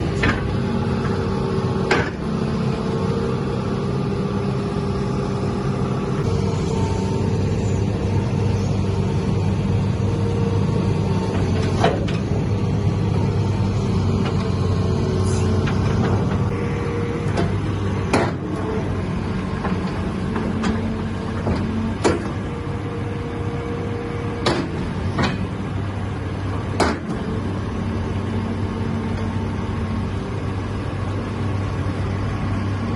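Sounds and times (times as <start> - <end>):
excavator engine running: 0.0 - 32.9.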